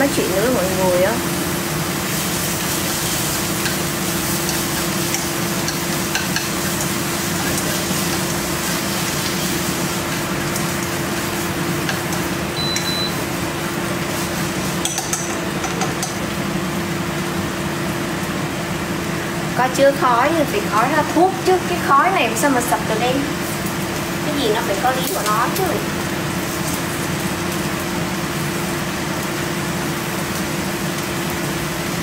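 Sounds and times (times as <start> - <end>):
food sizzling in a pan: 0.0 - 32.0
range hood fan humming: 0.0 - 32.0.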